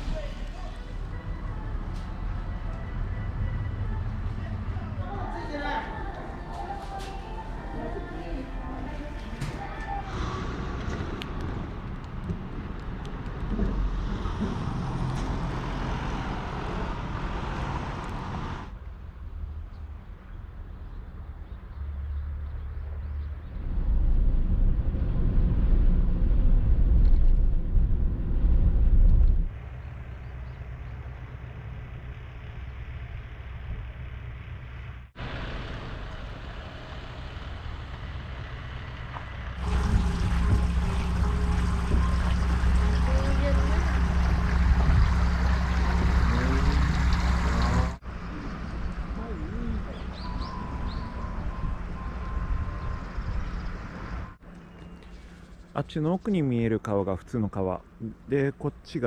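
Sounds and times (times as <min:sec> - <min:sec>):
motor vehicle road noise: 0:00.0 - 0:55.8.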